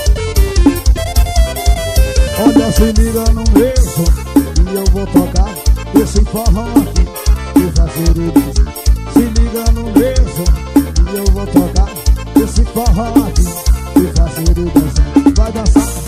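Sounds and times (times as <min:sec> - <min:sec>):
band music with drum beat: 0:00.0 - 0:16.0
sliding melody line: 0:00.0 - 0:16.0.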